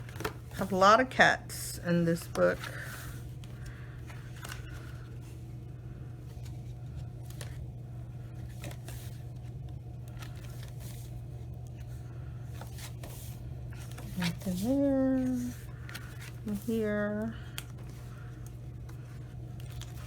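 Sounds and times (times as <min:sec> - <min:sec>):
paper pages turning: 0:00.0 - 0:00.8, 0:02.2 - 0:05.4, 0:06.3 - 0:07.7, 0:08.4 - 0:20.0
steady low hum: 0:00.0 - 0:20.0.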